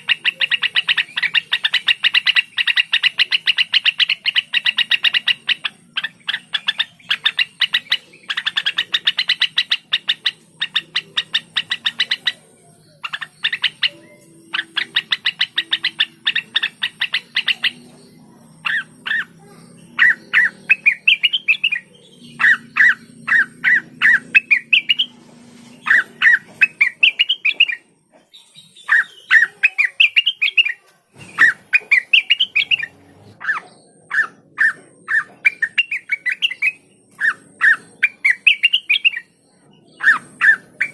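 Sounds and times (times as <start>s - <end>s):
bird chattering and whistling: 0.0s - 40.9s.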